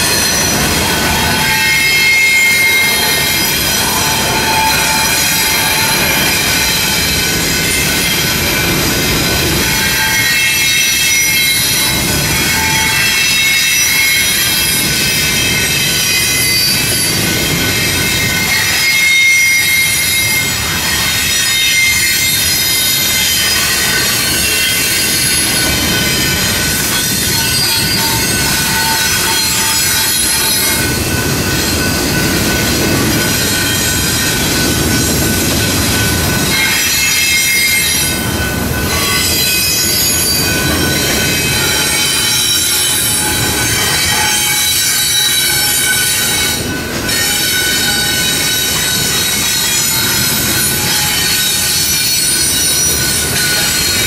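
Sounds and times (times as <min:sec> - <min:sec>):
freight train rumbling past: 0:00.0 - 0:54.0
steel wheels squealing: 0:00.0 - 0:54.0.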